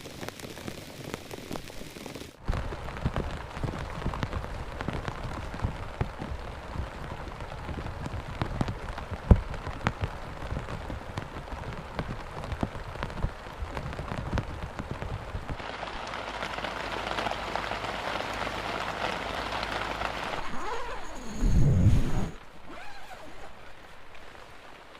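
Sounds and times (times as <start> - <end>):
raindrops ticking on a surface: 0.0 - 21.4, 22.3 - 24.9
heavy rain falling: 0.0 - 24.9.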